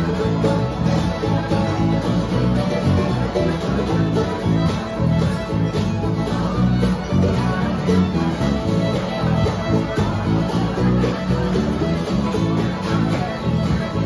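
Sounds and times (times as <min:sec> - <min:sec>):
acoustic guitars strumming: 0:00.0 - 0:14.0.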